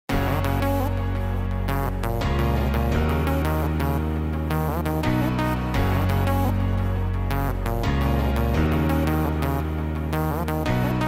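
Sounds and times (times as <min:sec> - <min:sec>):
electronic music with heavy bass: 0:00.1 - 0:11.0.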